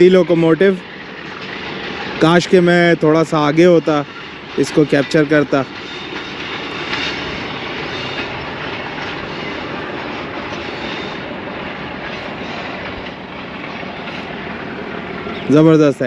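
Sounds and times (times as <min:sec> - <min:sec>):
distant locomotive engine rumble: 0:00.0 - 0:16.0.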